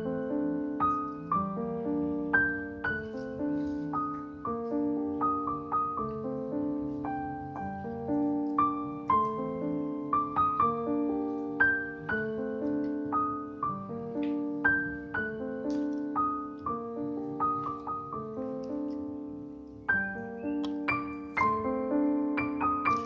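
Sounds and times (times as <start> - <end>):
calm piano melody: 0.0 - 23.0.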